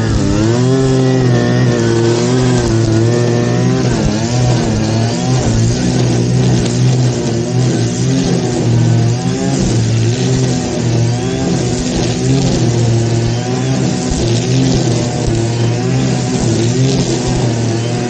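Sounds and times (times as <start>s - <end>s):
grass cutter engine running: 0.0s - 18.0s.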